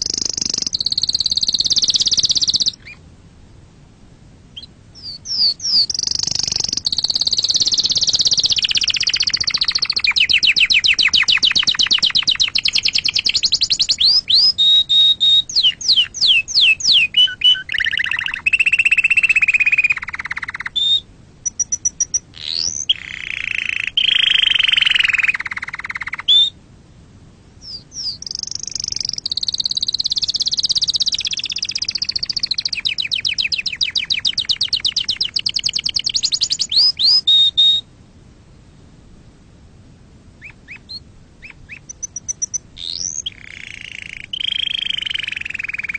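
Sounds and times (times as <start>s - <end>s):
canary singing trills: 0.0s - 3.0s, 4.5s - 26.6s, 27.6s - 37.9s, 40.4s - 45.9s.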